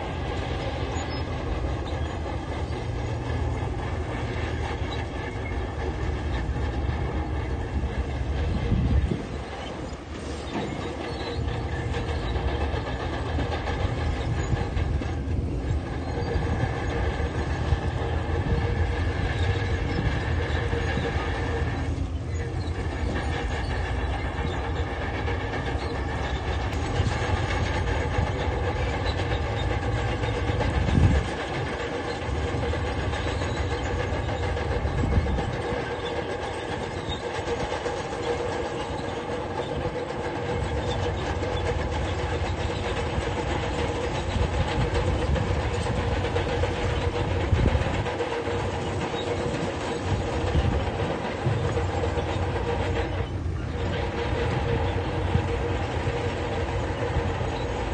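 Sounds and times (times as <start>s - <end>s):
bulldozer diesel engine running: 0.0s - 57.9s
steel tracks clanking: 0.0s - 57.9s.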